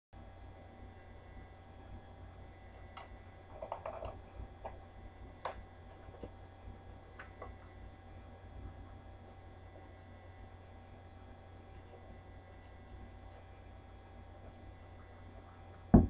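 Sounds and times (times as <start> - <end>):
steady low hum: 0.2 - 16.0.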